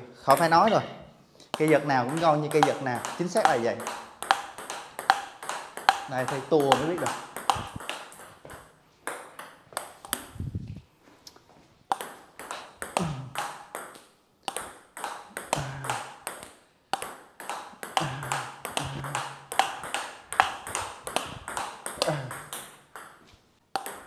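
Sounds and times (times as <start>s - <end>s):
table tennis ball hitting rackets: 0.3s - 10.4s, 11.9s - 24.0s
ball bouncing on table: 1.5s - 10.3s, 11.9s - 23.2s, 23.8s - 24.0s.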